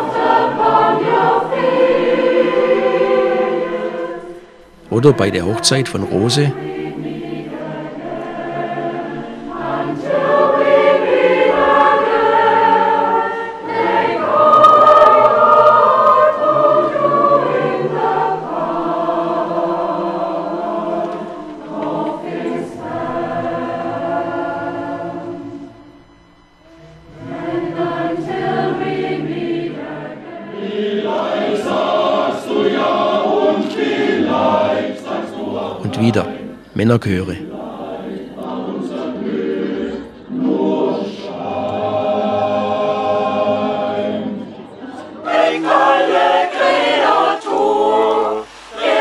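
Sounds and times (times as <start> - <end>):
church choir singing: 0.0 - 49.0.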